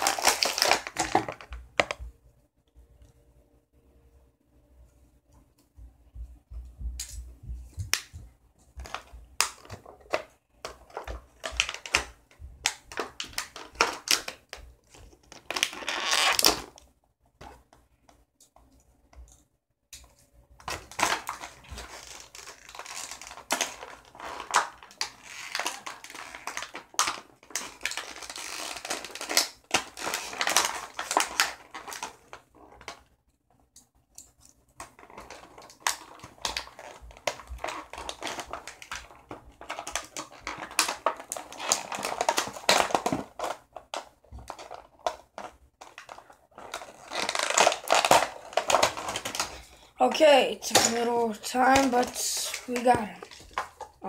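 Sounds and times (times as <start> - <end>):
plastic packaging crinkling: 0.0 - 2.0, 7.8 - 17.7, 20.0 - 33.2, 34.2 - 54.0.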